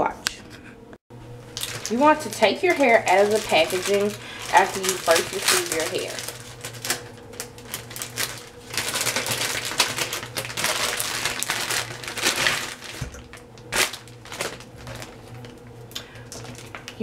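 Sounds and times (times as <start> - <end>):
packaging crinkling and rustling: 1.4 - 17.0.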